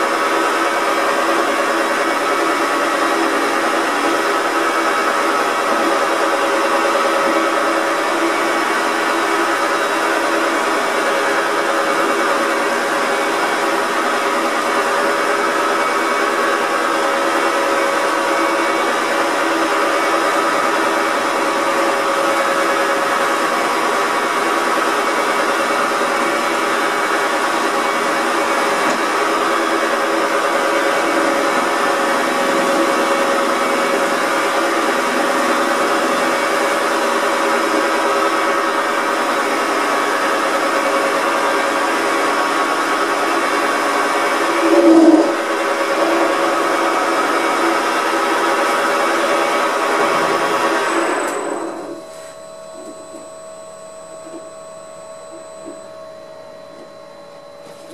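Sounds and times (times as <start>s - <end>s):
lathe cutting metal rod whirring: 0.0s - 57.9s.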